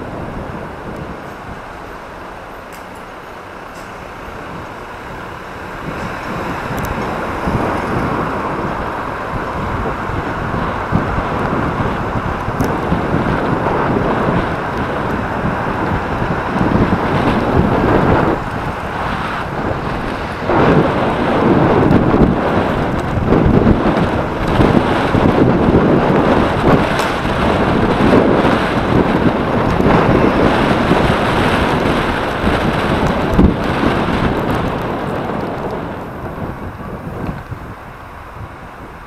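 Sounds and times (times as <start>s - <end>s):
road and traffic noise: 0.0s - 39.0s
wind buffeting microphone: 0.0s - 39.0s.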